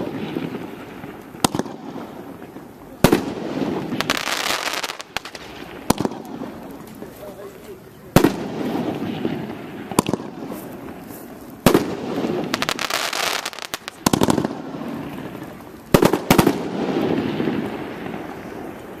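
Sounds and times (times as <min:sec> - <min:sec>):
firework shells bursting: 0:00.0 - 0:19.0
rapid crackling pops: 0:00.0 - 0:19.0.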